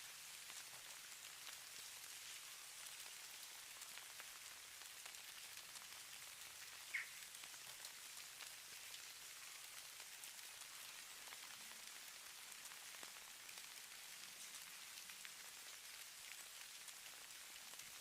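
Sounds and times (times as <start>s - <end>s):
snow pattering softly: 0.0s - 18.0s.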